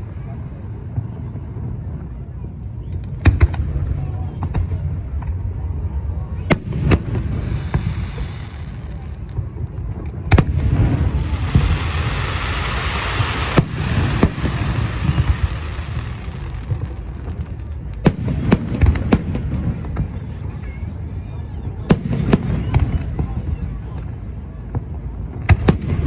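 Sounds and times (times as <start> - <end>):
fireworks hissing and crackling: 0.0 - 26.0
fireworks booming: 2.9 - 5.5, 6.3 - 26.0.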